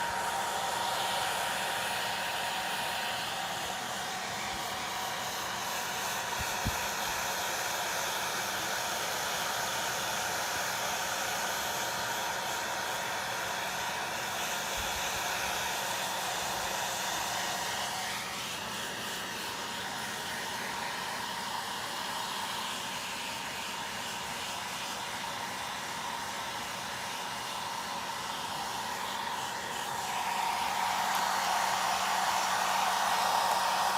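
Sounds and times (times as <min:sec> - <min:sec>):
hair dryer blowing air: 0:00.0 - 0:33.9.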